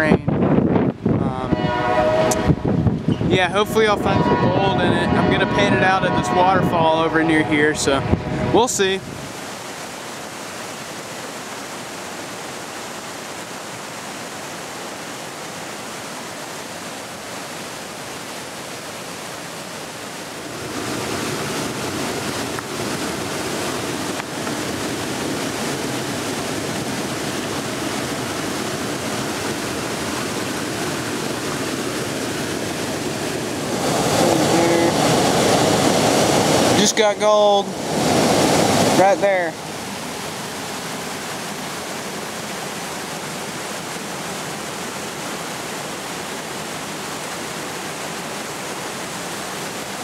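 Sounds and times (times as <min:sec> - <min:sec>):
waterfall and creek rushing: 0:03.2 - 0:50.0.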